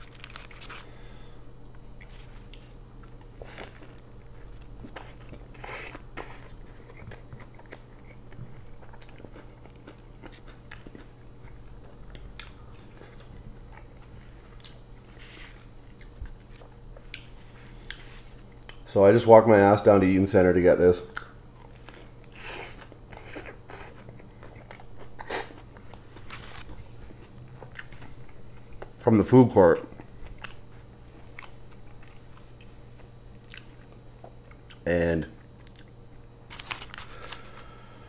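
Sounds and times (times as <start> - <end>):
person chewing food: 0.0 - 18.8, 21.1 - 29.0, 29.8 - 37.8
faint steady hum: 0.0 - 38.0.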